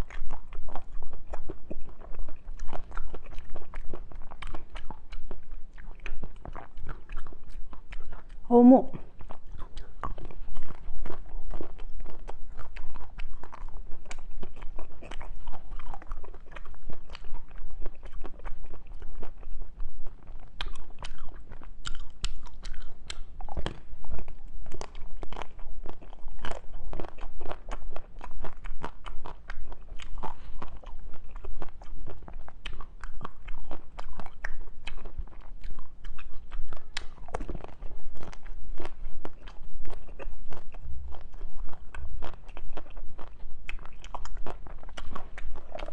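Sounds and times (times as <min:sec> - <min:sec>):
crisp crunching and chewing: 0:00.0 - 0:45.9.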